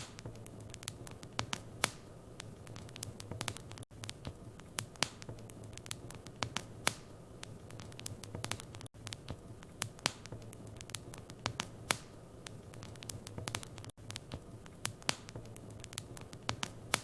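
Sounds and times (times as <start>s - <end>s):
low hiss and hum: 0.0s - 17.0s
wood fire crackling: 0.0s - 17.0s.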